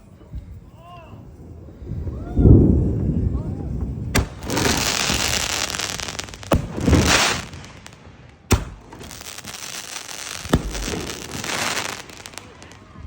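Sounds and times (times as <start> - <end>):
firework bangs: 0.0 - 13.0
firework hissing and crackling: 0.0 - 13.0.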